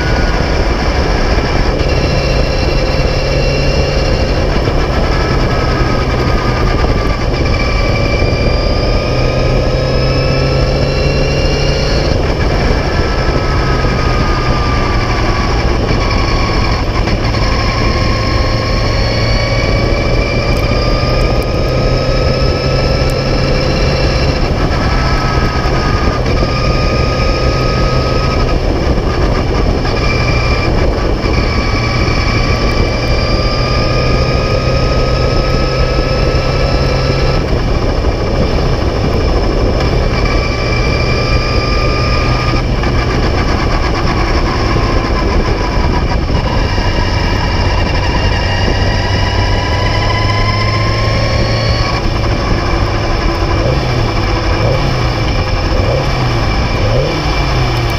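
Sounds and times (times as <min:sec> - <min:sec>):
racing car engine running: 0:00.0 - 0:57.9.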